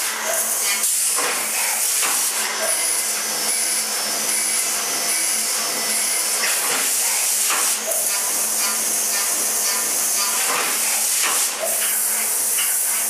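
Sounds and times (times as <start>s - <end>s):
coolant spray hiss and cutting: 0.0s - 13.0s.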